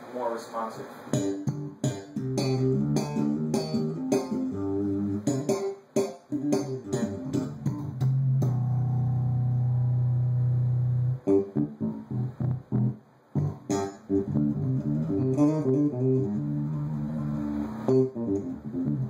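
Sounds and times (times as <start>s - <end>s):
electric bass guitar notes: 1.1s - 19.0s.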